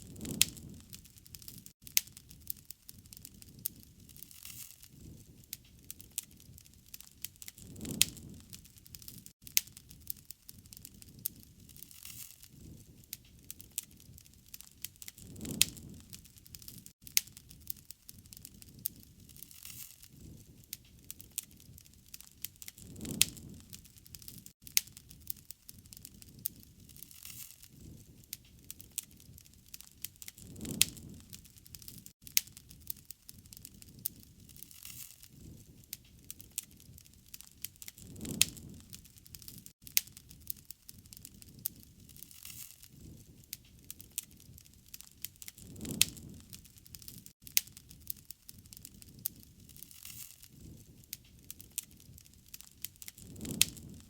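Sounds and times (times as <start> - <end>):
campfire crackling and popping: 0.0 - 54.0
low rumble of burning wood: 0.0 - 54.0.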